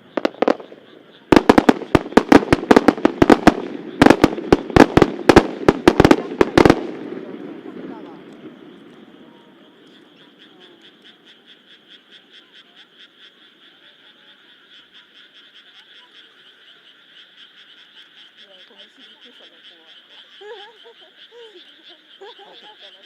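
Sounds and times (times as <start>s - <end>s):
frogs calling: 0.0s - 23.0s
low wavering frog calls: 0.0s - 23.0s.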